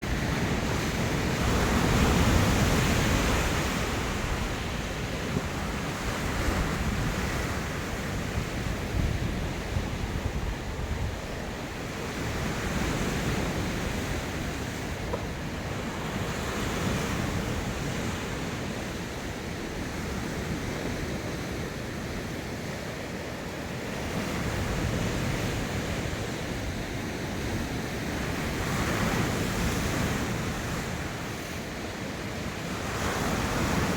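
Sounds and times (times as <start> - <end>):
waves breaking on shore: 0.0 - 33.9
wind on microphone: 0.0 - 33.9.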